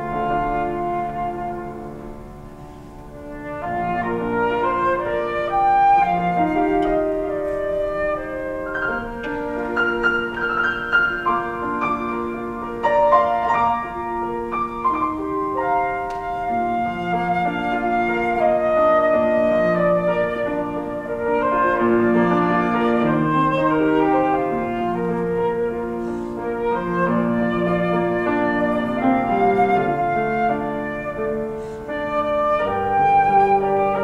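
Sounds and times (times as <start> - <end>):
flute melody: 0.0 - 34.0
piano accompaniment: 0.0 - 34.0.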